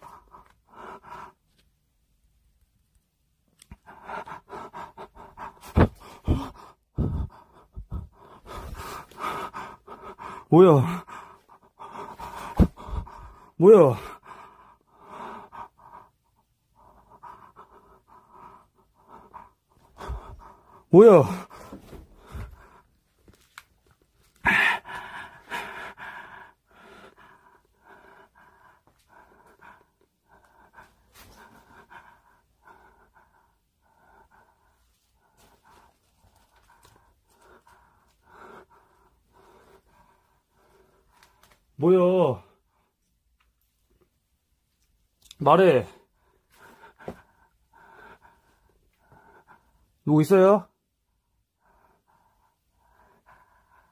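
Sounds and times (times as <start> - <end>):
man breathing heavily and gasping: 0.0 - 1.7, 3.6 - 43.0, 45.2 - 53.9.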